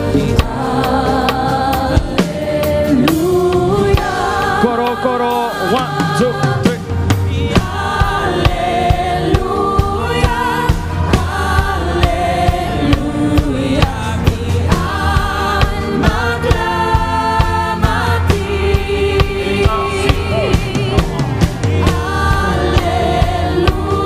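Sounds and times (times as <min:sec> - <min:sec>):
drum kit beat: 0:00.0 - 0:24.0
low bass: 0:00.0 - 0:24.0
singers holding long notes: 0:00.0 - 0:24.0.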